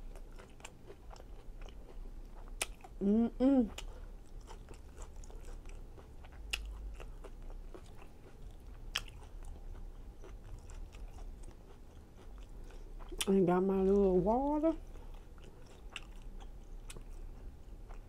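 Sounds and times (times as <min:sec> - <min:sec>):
person chewing: 0:00.0 - 0:13.4, 0:14.8 - 0:18.0.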